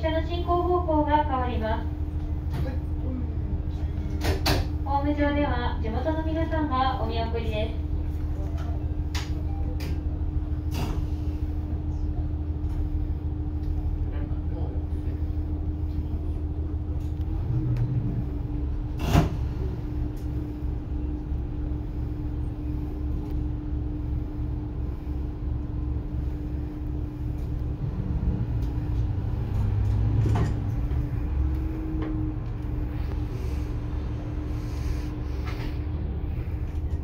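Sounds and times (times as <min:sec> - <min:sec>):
diesel railcar engine running: 0:00.0 - 0:37.0.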